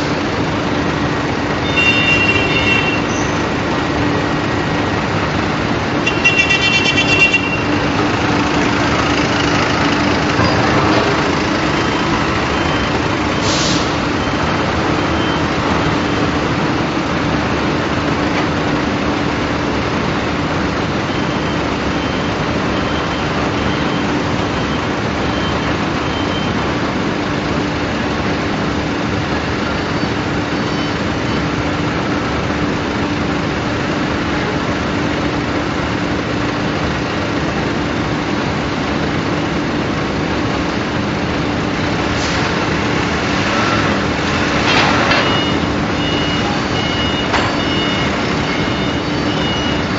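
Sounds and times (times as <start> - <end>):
industrial machinery hum: 0.0 - 49.9.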